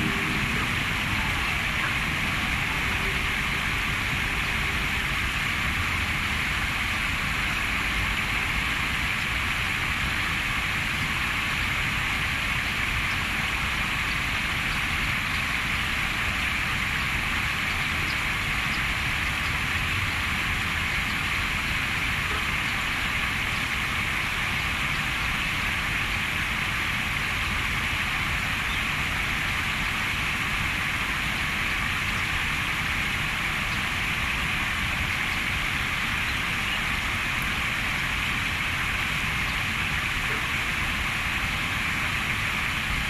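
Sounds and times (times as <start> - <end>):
stream bubbling and flowing: 0.0 - 43.0.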